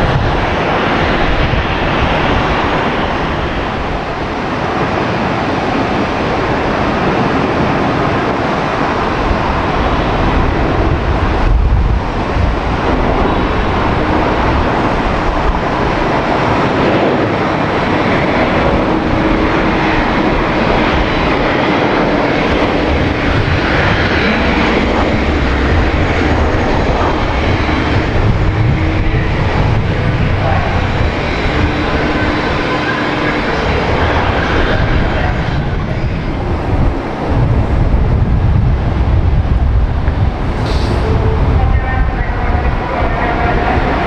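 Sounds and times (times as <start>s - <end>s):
airliner engines running: 0.0s - 44.0s.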